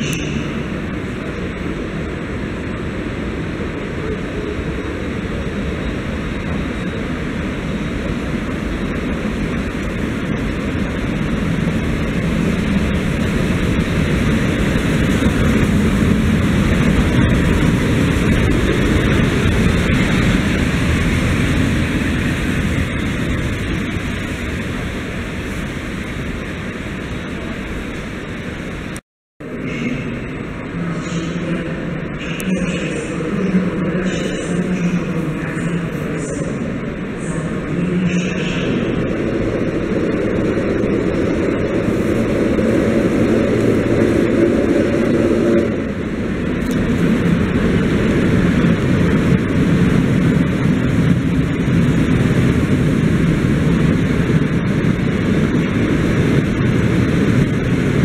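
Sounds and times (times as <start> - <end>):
electric locomotive running drone: 0.0 - 58.0.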